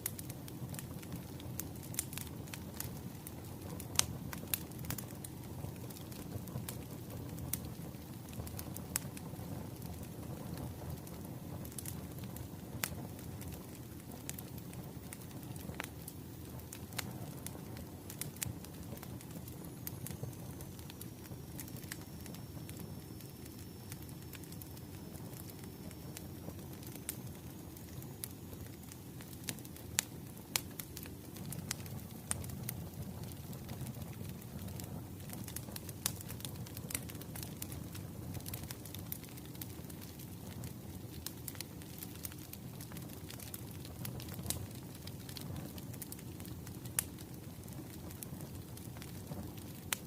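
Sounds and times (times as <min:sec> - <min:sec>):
firewood burning with pops: 0:00.0 - 0:50.0.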